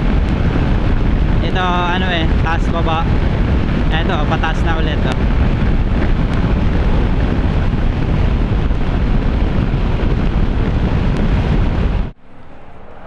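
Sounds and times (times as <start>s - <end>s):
scooter engine and road noise: 0.0s - 13.0s
wind buffeting microphone: 0.0s - 13.0s.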